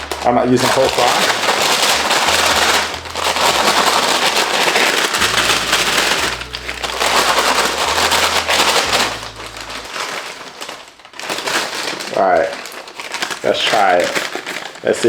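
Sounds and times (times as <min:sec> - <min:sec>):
paper bag crackling and rustling: 0:00.0 - 0:15.0.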